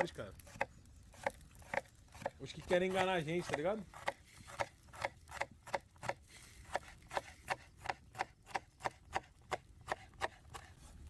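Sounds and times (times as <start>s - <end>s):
knife chopping on cutting board: 0.5s - 10.7s.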